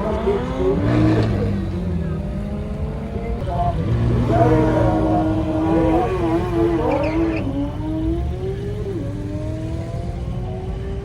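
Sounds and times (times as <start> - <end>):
car engines accelerating: 0.0 - 11.0.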